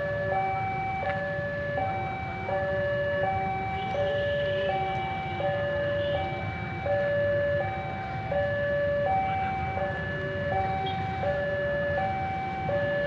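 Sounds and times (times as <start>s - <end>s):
electronic two-tone warning alarm: 0.0s - 13.0s.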